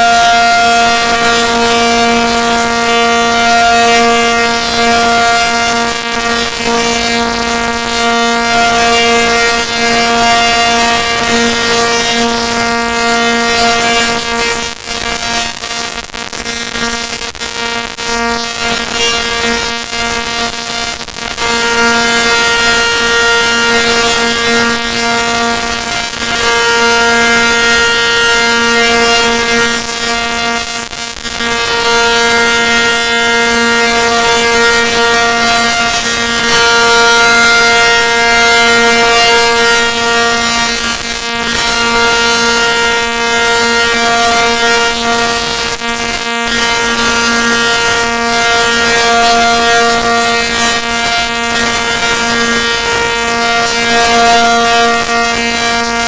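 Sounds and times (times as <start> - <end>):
tornado warning siren: 0.0 - 56.0.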